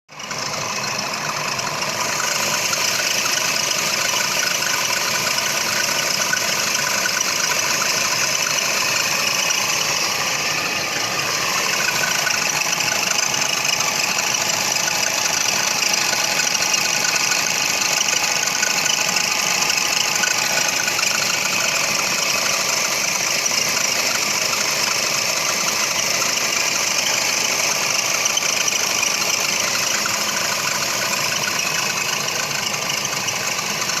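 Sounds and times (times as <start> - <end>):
car engine idling: 0.1 - 34.0
drive belt squealing: 0.1 - 34.0.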